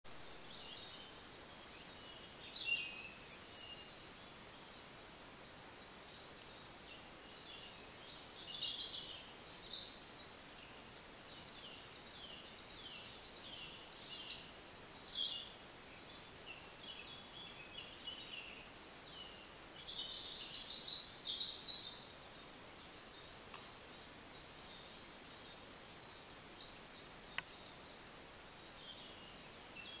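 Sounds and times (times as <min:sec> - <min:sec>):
songbird singing: 0:00.1 - 0:30.0
steady hiss: 0:00.1 - 0:30.0.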